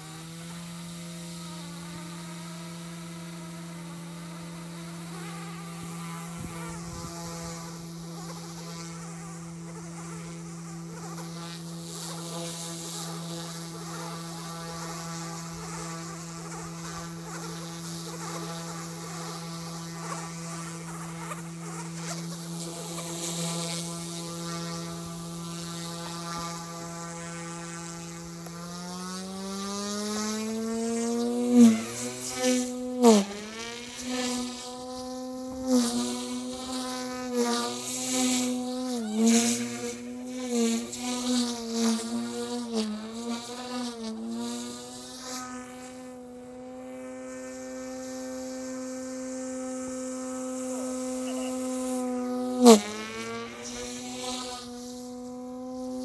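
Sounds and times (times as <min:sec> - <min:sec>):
rc helicopter motor whine: 0:00.0 - 0:56.0.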